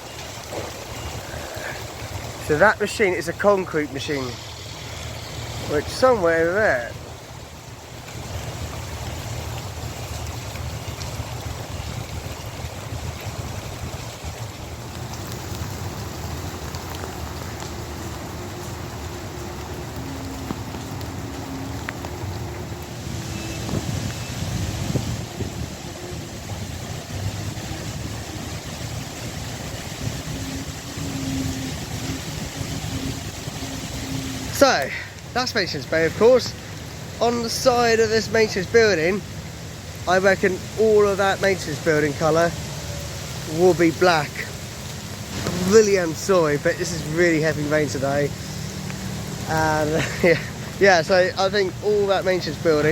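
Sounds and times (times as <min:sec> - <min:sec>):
constant low rumble: 0:00.0 - 0:52.9
heavy rain falling: 0:00.0 - 0:52.9.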